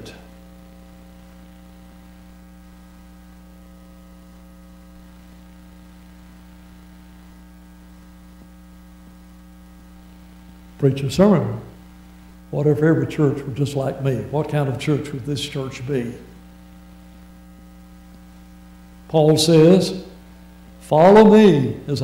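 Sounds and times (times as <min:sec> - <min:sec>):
low electrical mains hum: 0:00.0 - 0:22.0.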